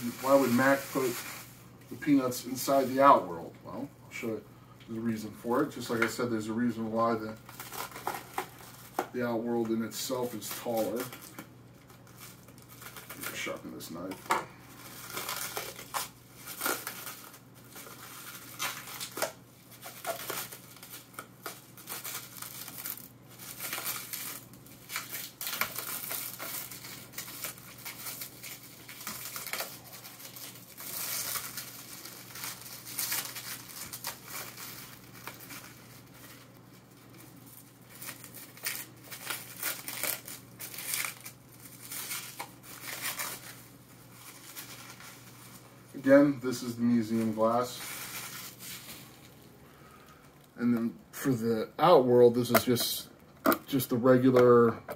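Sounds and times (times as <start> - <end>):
plastic wrapping crinkling and tearing: 0.0 - 4.3, 5.0 - 51.4.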